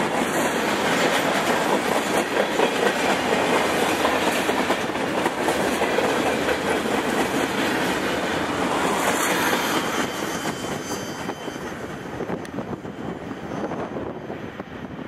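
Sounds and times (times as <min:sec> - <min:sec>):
train wheels clattering on rails: 0:00.0 - 0:14.8.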